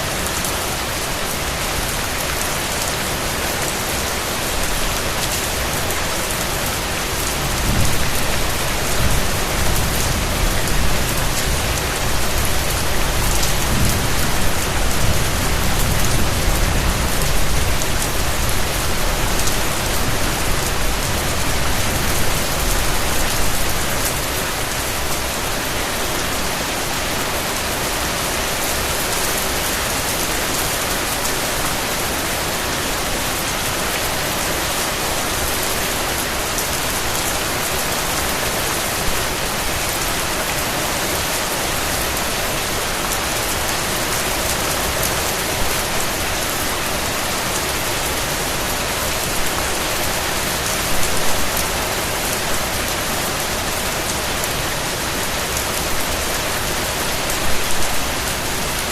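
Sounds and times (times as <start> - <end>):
raindrops hitting a surface: 0.0 - 58.9
steady rain falling: 0.0 - 58.9.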